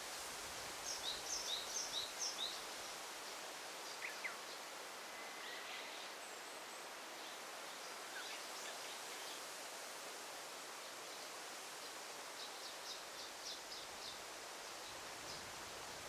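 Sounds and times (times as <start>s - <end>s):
forest rustling hiss: 0.0s - 16.0s.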